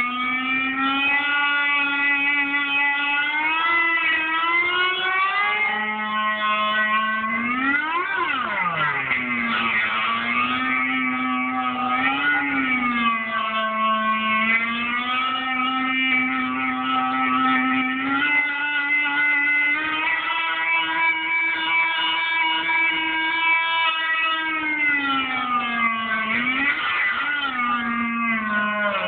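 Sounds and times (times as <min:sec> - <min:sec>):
electric guitar sustained notes: 0:00.0 - 0:29.0.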